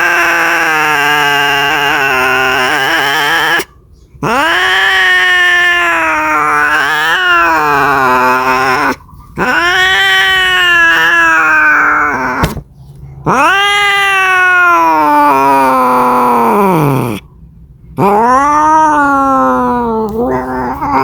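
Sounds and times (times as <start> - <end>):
cat yowling: 0.0 - 12.6, 13.2 - 17.3, 18.0 - 21.0.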